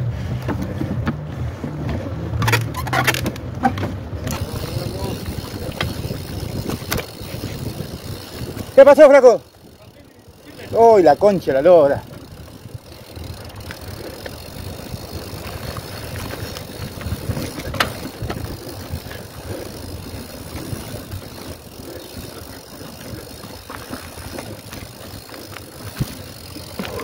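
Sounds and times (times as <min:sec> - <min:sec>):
bike tyres rumbling on trail: 0:00.0 - 0:27.0.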